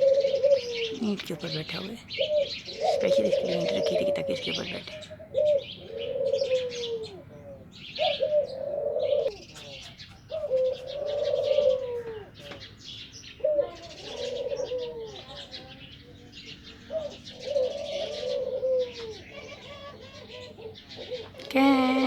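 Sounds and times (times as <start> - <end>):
doves cooing: 0.0 - 22.0
small birds chirping: 0.0 - 22.0.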